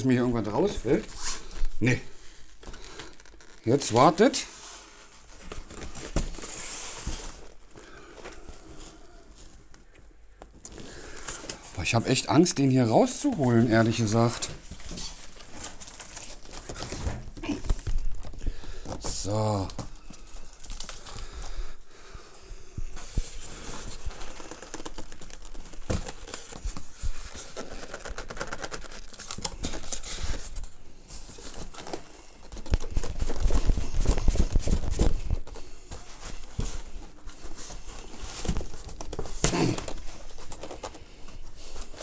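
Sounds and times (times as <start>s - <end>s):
cardboard and packing rustling: 0.0s - 42.0s.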